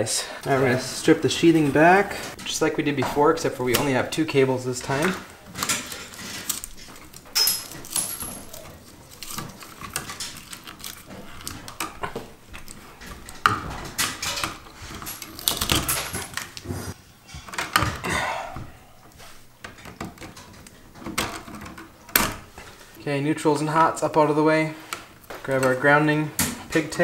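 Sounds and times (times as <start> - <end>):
cable rustling and scraping: 0.4 - 17.7, 19.0 - 27.0.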